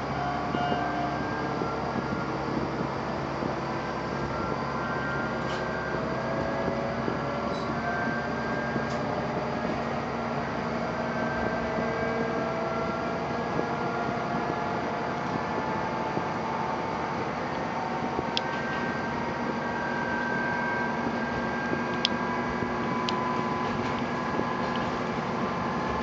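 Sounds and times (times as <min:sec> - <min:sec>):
railcar engine and rail drone: 0:00.0 - 0:26.0.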